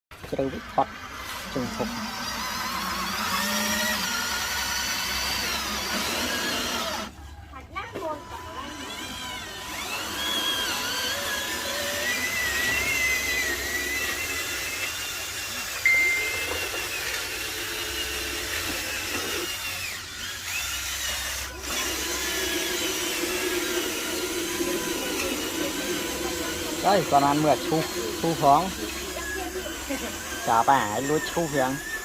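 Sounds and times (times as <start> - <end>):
small electric motor whining: 0.1 - 32.0.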